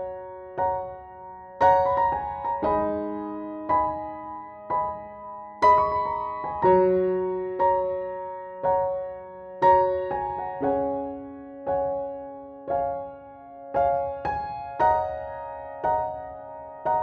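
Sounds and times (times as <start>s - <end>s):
gentle electric piano melody: 0.0s - 17.0s.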